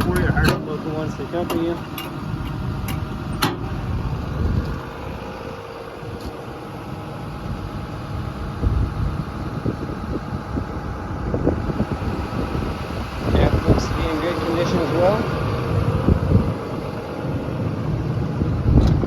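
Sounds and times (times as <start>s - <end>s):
excavator diesel engine idling: 0.0s - 19.0s.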